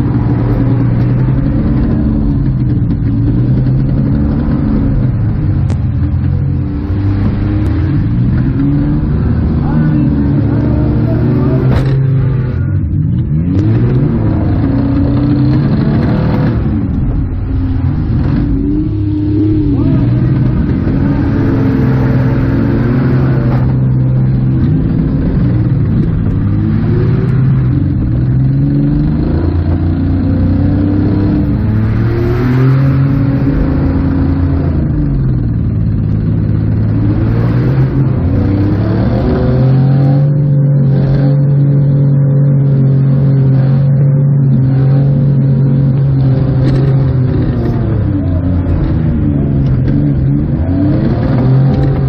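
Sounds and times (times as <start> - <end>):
minivan engine revving: 0.0 - 52.0.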